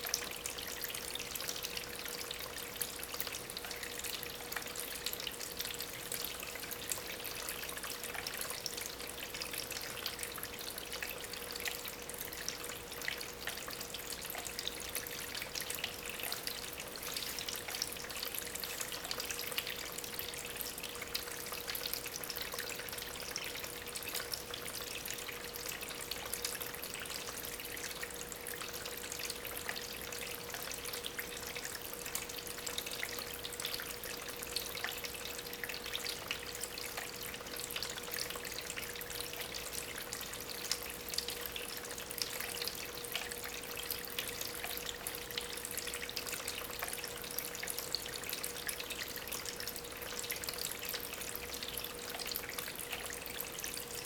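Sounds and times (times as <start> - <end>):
faint pump hum: 0.0 - 54.0
water trickling over stones: 0.0 - 54.0.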